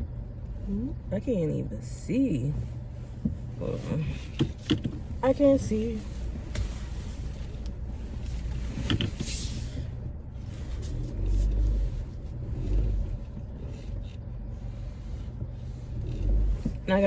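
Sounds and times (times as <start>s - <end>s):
car running heard from inside: 0.0s - 17.0s.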